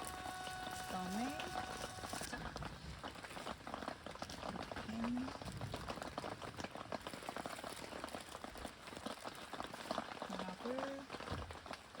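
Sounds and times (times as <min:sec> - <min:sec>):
broth boiling and bubbling: 0:00.0 - 0:12.0.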